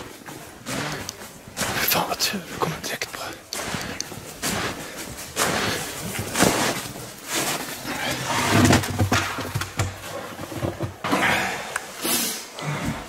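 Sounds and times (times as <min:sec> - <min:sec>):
clothing rustle: 0:00.0 - 0:11.0
scraping and scuffing: 0:00.0 - 0:11.5.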